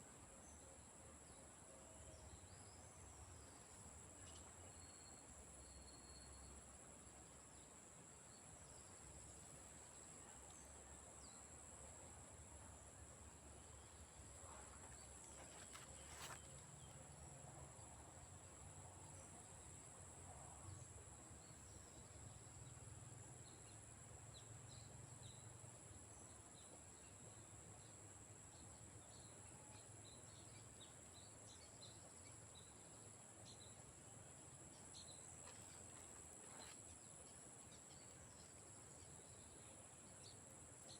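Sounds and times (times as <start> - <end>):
crickets chorus: 0.4 - 40.9.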